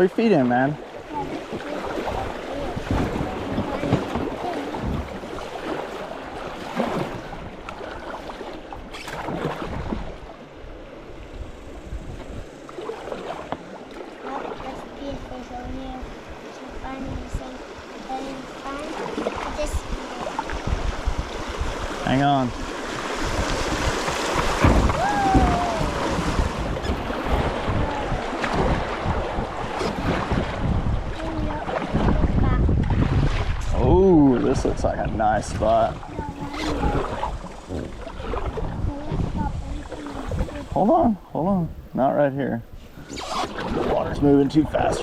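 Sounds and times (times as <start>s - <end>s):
paddle strokes splashing in water: 0.0s - 10.8s, 12.1s - 40.9s, 42.7s - 45.0s
irregular water splashes: 0.0s - 45.0s
wind buffeting microphone: 0.7s - 8.1s, 8.7s - 13.7s, 14.5s - 45.0s.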